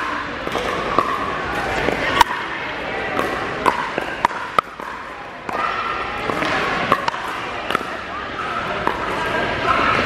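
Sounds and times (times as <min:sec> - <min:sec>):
murmur of voices: 0:00.0 - 0:10.0.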